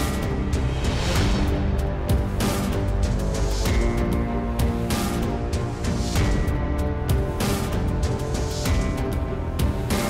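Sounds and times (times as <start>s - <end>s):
theme music with steady beat: 0.0s - 10.0s.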